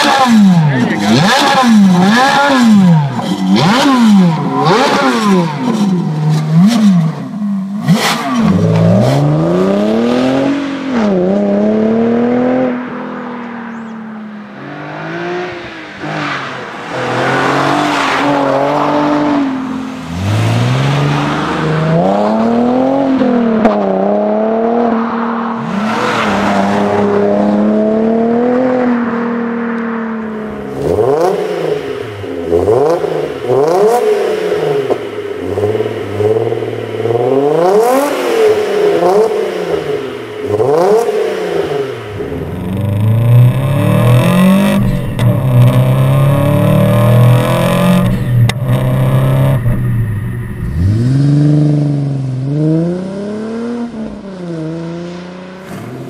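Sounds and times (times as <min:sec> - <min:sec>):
car exhaust revving: 0:00.0 - 0:13.4, 0:14.4 - 0:56.0
car accelerating hard: 0:00.0 - 0:56.0.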